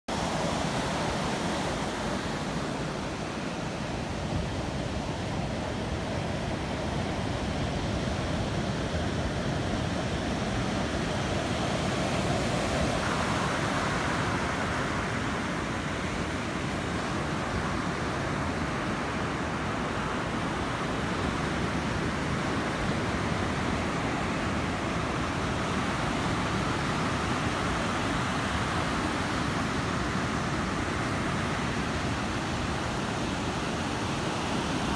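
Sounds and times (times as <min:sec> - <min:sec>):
ocean waves breaking: 0:00.1 - 0:34.9.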